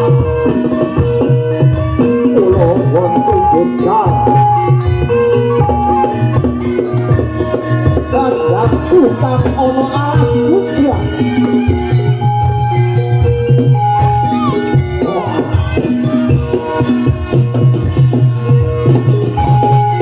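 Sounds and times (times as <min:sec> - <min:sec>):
hand drums beating: 0:00.0 - 0:20.0
struck metallophone notes: 0:00.0 - 0:20.0
wavering melody line: 0:00.0 - 0:20.0.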